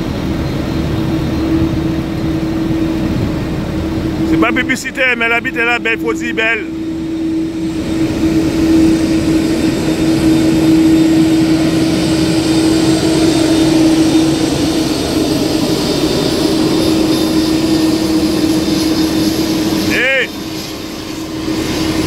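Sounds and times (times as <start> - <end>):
jet engines droning: 0.0 - 22.0.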